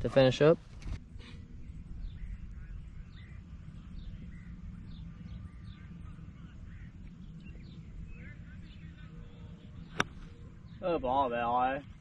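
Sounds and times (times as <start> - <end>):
low background rumble: 0.0 - 10.9
birds chirping: 1.4 - 12.0.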